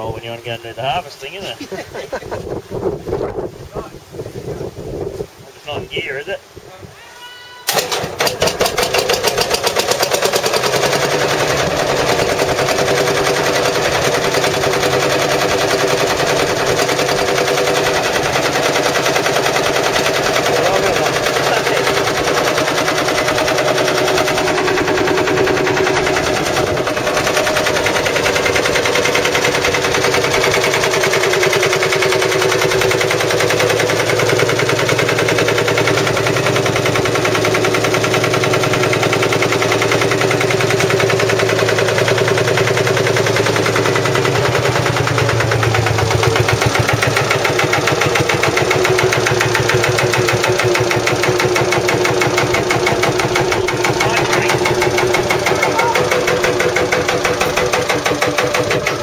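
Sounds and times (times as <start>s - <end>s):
tractor diesel engine idling: 7.7s - 59.0s.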